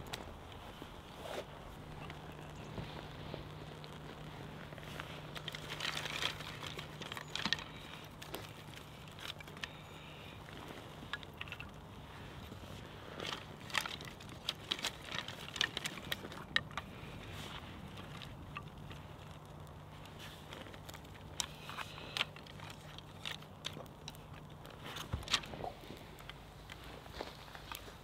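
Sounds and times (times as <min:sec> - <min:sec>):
dry twigs clicking and snapping: 0:00.0 - 0:28.0
small fire crackling: 0:00.0 - 0:28.0.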